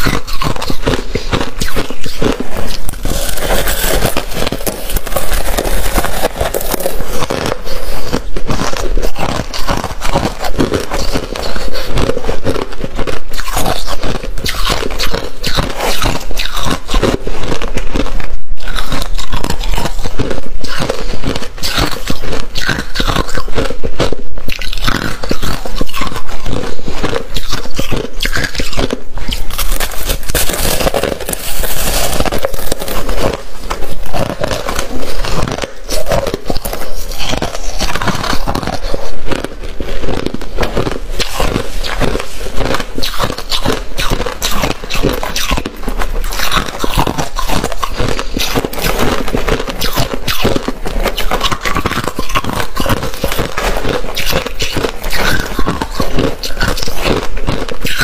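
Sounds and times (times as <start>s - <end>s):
person crunching ice: 0.0s - 58.0s.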